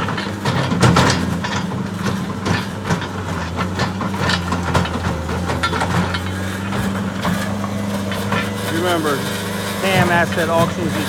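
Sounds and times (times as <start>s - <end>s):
diesel engine running: 0.0s - 11.0s
machine clanks and rattles: 0.0s - 11.0s.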